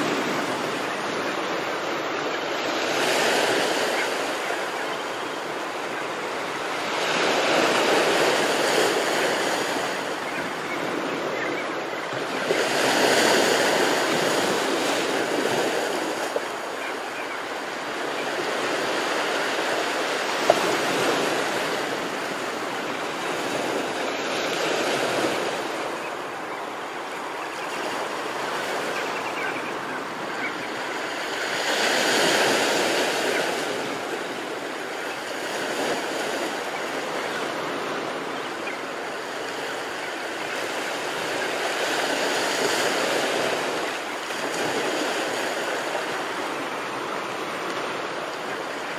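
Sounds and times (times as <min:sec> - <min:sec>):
ocean surf washing onto shore: 0:00.0 - 0:48.9.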